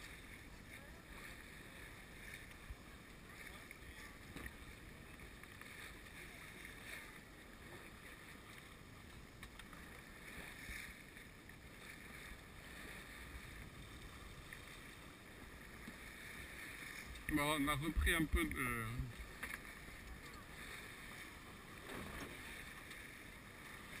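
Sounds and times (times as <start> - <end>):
water rushing along a hull: 0.0 - 24.0
wind: 0.0 - 24.0.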